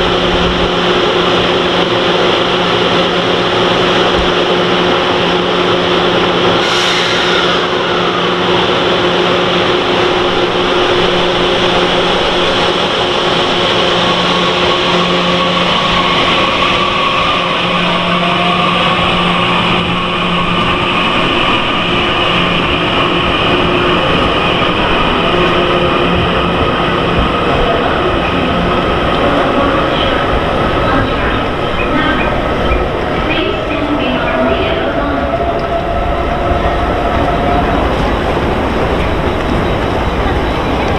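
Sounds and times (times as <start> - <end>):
steady droning tones: 0.0 - 40.9
train mechanical hum and rumble: 0.0 - 40.9.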